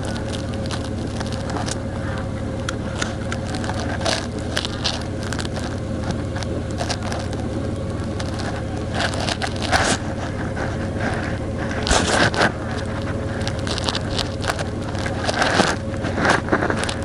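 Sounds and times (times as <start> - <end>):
brief crackles and scrapes: 0.0 - 17.0
constant hum: 0.0 - 17.0
engine and road rumble: 0.0 - 17.0.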